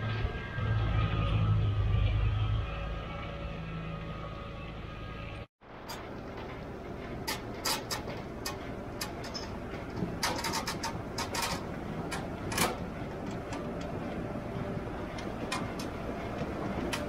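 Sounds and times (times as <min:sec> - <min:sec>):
conveyors running: 0:00.0 - 0:17.0.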